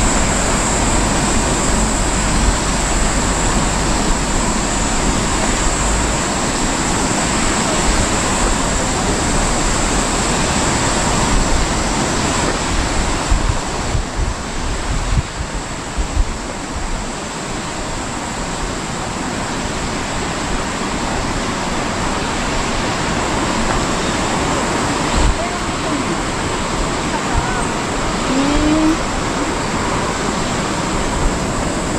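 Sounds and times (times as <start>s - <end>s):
rushing hiss: 0.0s - 31.9s
wind buffeting microphone: 0.0s - 31.9s.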